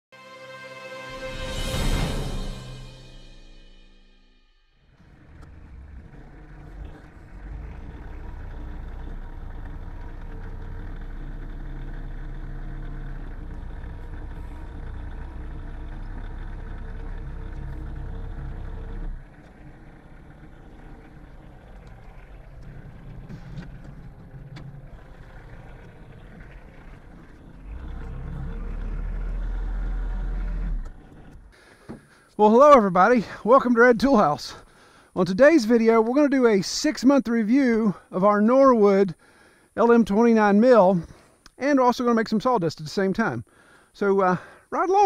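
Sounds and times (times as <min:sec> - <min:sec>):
tractor engine running: 0:04.8 - 0:45.0.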